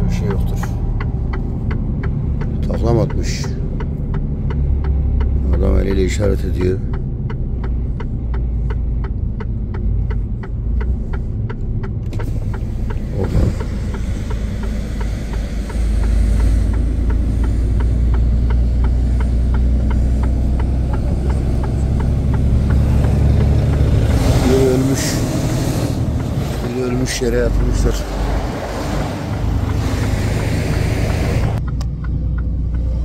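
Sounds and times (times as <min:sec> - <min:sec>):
indicator ticking: 0:00.0 - 0:33.0
truck engine rumble: 0:00.0 - 0:33.0.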